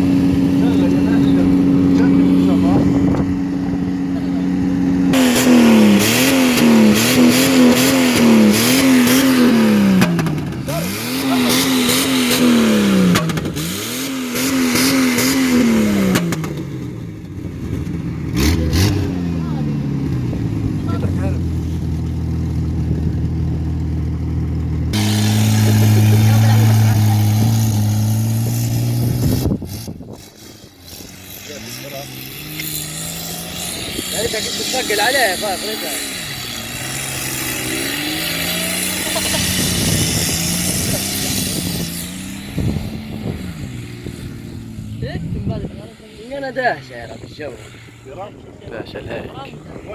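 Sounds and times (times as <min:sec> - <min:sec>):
car engine revving hard: 0:00.0 - 0:48.2.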